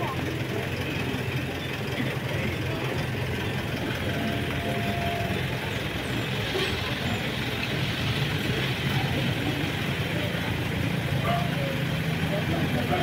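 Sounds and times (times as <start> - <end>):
street hubbub: 0.0 - 13.0
truck engines rumbling: 0.0 - 13.0.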